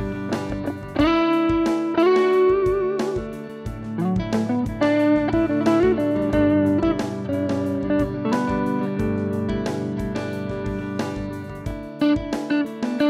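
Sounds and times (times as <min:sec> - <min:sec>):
drum machine beat: 0:00.0 - 0:13.0
electric guitar lead with bends: 0:00.0 - 0:13.0.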